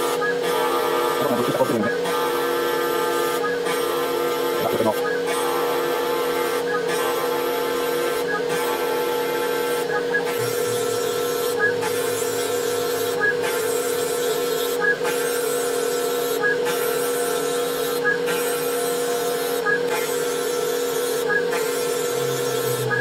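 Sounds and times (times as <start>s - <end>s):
cnc spindle whining: 0.0s - 23.0s
rasping cutting noise: 0.5s - 23.0s.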